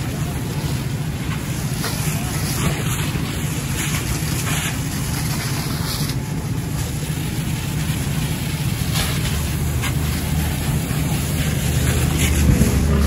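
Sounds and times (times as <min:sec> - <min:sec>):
fire crackling: 0:00.0 - 0:13.0
fire engine pump rumbling: 0:00.0 - 0:13.0
hose stream spraying: 0:00.0 - 0:13.0.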